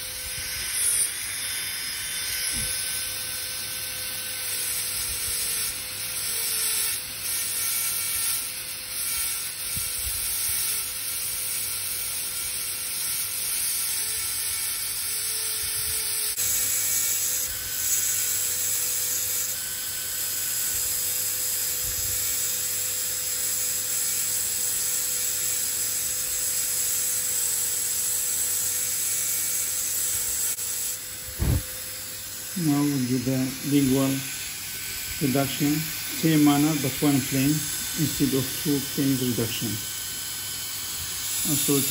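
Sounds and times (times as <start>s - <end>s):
dental drill whining: 0.0s - 41.9s.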